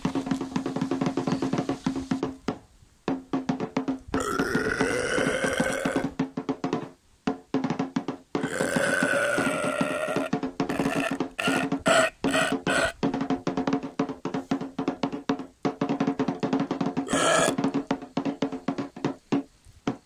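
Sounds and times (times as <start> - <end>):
fast percussion beat: 0.0 - 20.0.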